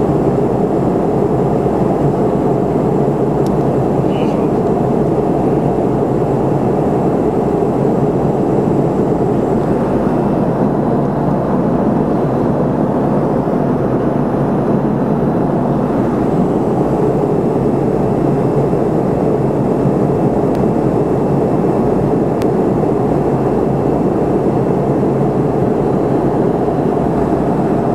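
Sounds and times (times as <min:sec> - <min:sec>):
airliner cabin drone: 0:00.0 - 0:27.9.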